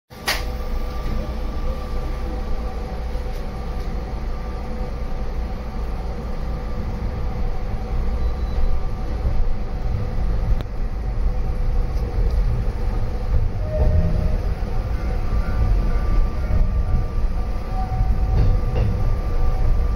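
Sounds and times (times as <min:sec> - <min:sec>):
train rumbling on track: 0:00.1 - 0:19.9.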